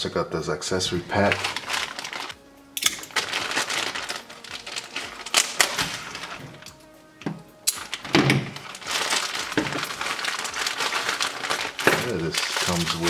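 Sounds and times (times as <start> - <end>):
plastic bag crinkling: 0.9 - 6.8, 7.7 - 13.0
plastic bag being snipped: 1.2 - 6.8, 7.6 - 13.0.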